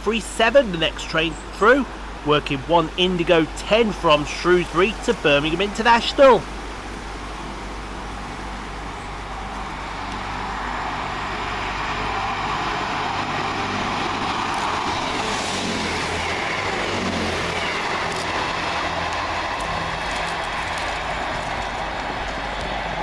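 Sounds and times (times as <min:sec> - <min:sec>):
diesel engines droning: 0:00.0 - 0:23.0
wheel and rail rush: 0:00.0 - 0:23.0.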